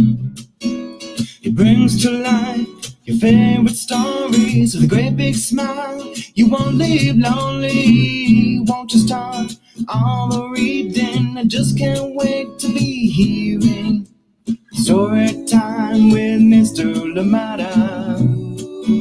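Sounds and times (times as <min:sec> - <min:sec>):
strummed acoustic guitar: 0:00.0 - 0:19.0
person singing: 0:01.2 - 0:14.0, 0:14.7 - 0:19.0.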